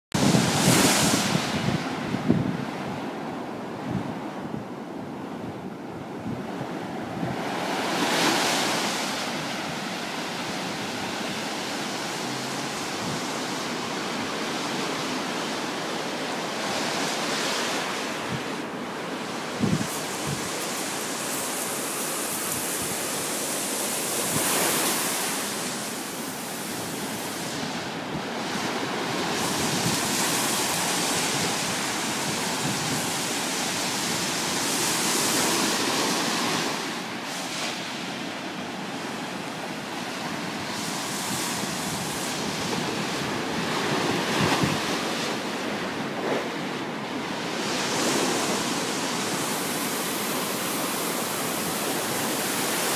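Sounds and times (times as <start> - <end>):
surf breaking on a sandy beach: 0.1 - 52.9.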